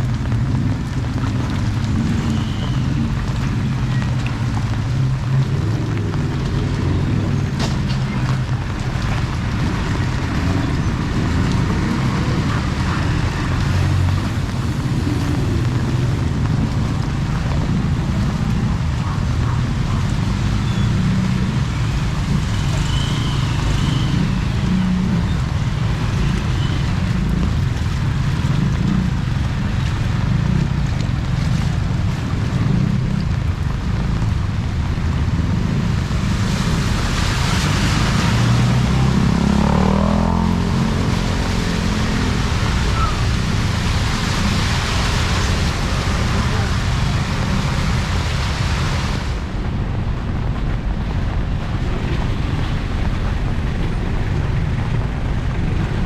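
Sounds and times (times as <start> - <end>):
low street rumble: 0.0 - 56.0
rain hissing: 0.2 - 18.9, 20.2 - 56.0.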